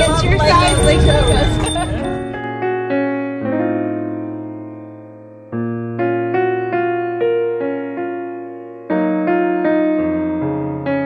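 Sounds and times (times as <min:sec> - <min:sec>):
electric piano playing: 0:00.0 - 0:11.0.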